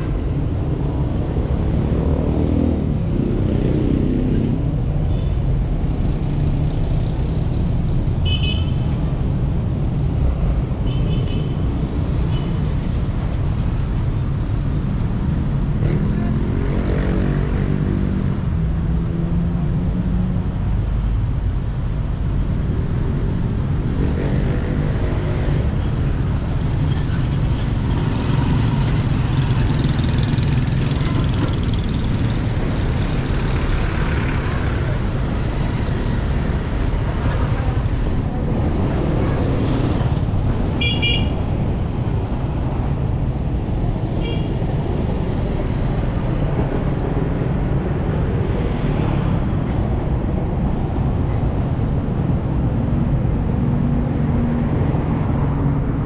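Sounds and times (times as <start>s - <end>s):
low traffic rumble: 0.0s - 56.0s
vehicles passing by: 0.0s - 56.0s.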